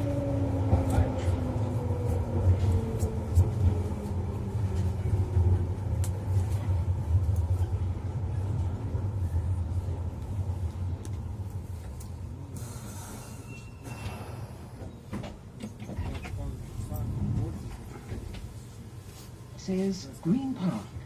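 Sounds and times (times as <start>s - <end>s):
train rumbling through tunnel: 0.0s - 21.0s.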